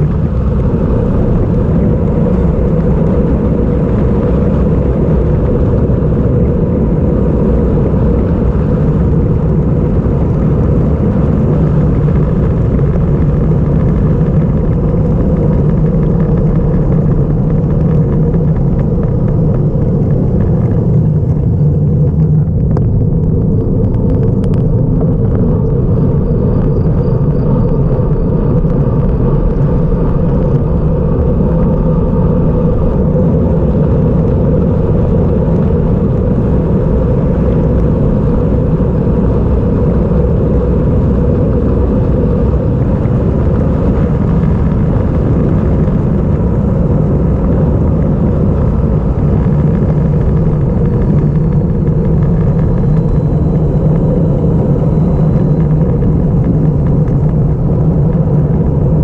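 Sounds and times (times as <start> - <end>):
road noise: 0.0 - 59.0
wind buffeting microphone: 0.0 - 59.0.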